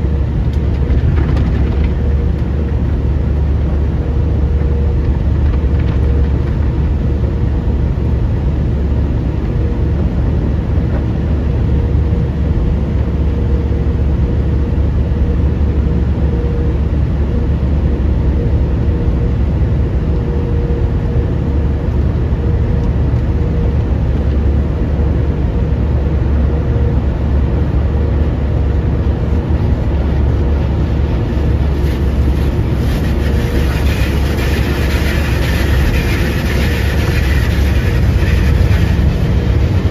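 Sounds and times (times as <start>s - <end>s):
car wash low rumble: 0.0s - 39.9s.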